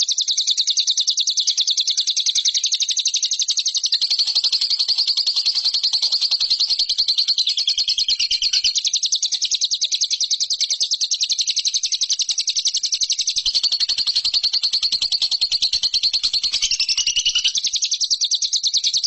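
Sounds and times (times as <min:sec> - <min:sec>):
lovebird rapid high chirps: 0:00.0 - 0:19.0.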